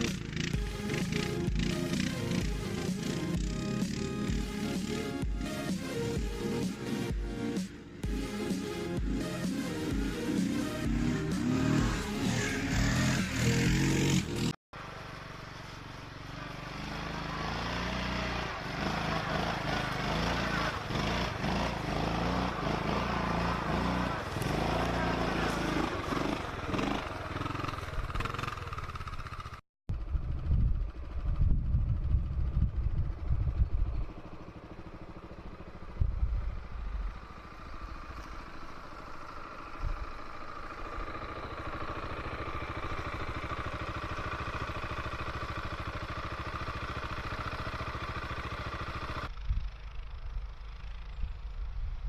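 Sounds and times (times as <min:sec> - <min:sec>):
atv engine revving: 0:00.0 - 0:51.2.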